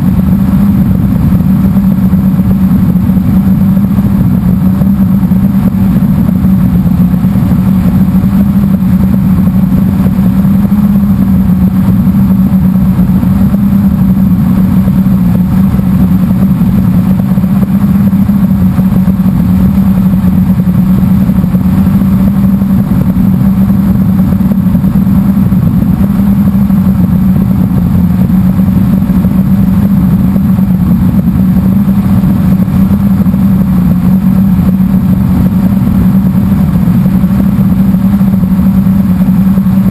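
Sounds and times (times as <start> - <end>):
quadcopter motors humming: 0.0 - 39.9
wind rumble on microphone: 0.0 - 39.9.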